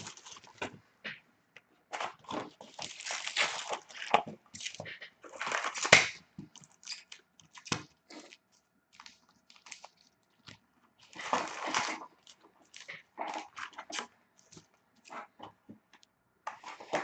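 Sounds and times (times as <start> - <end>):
foil card packs crinkling: 0.0 - 0.8, 2.0 - 15.2.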